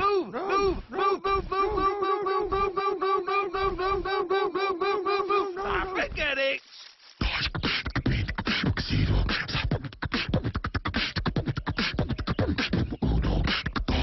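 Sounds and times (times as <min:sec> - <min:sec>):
person beatboxing: 0:00.0 - 0:06.3, 0:07.2 - 0:14.0.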